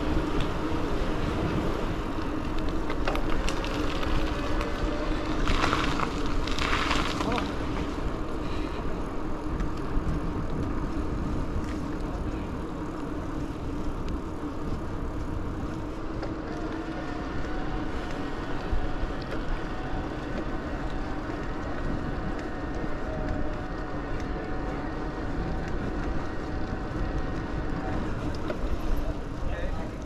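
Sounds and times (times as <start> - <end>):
electric motor hum: 0.0 - 30.0
tyre rush on asphalt: 0.0 - 30.0
wind rumble on microphone: 0.0 - 30.0.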